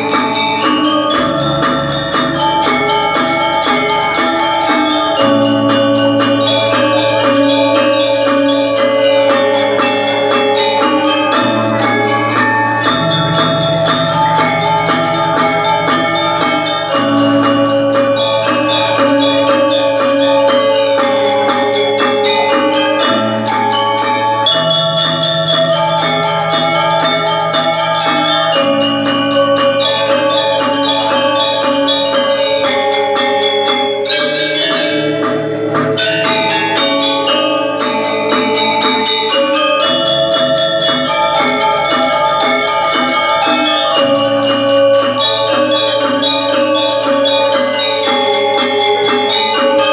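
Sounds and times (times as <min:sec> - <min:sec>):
mallet bells melody: 0:00.0 - 0:49.9
marching percussion strokes: 0:00.0 - 0:49.9.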